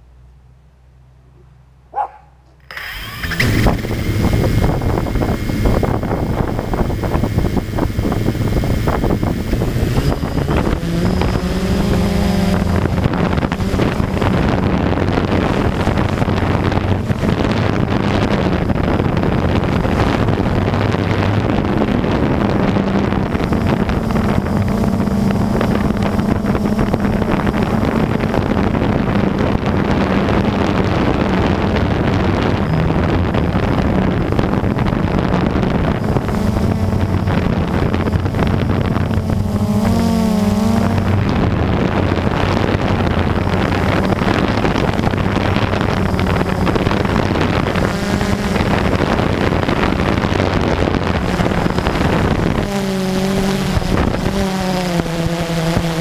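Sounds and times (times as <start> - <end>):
wind buffeting microphone: 1.9 - 56.0
drone motors and propellers humming: 2.0 - 56.0.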